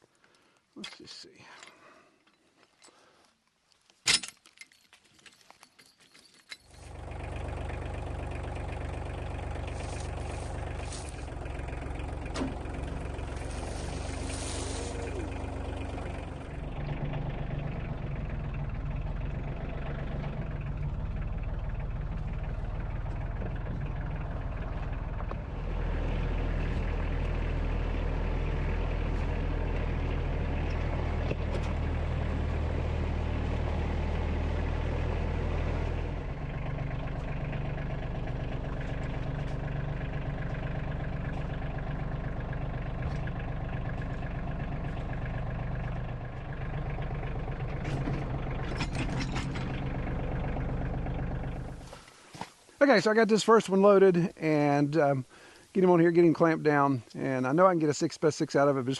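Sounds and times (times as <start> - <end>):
tractor engine running: 6.3 - 58.9.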